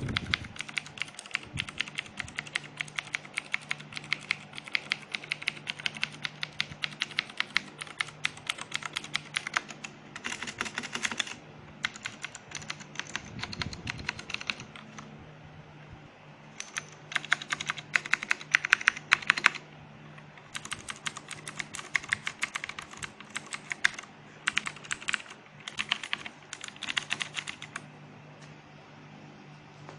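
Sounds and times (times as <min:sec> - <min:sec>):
clicky mechanical keyboard typing: 0:00.0 - 0:15.1, 0:16.6 - 0:19.6, 0:20.2 - 0:27.8.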